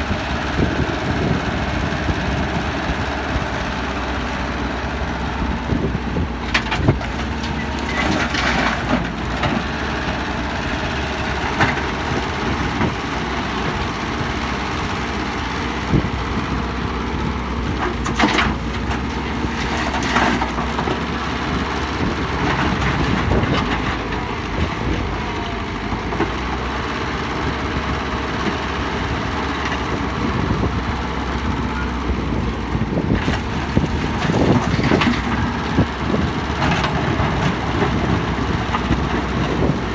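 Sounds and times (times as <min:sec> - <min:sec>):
diesel excavator running: 0:00.0 - 0:39.9.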